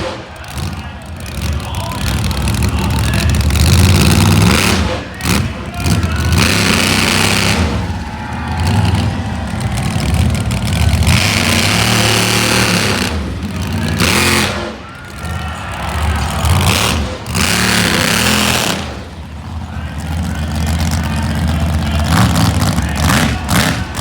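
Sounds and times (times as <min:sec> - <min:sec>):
truck engine revving roughly: 0:00.0 - 0:24.0.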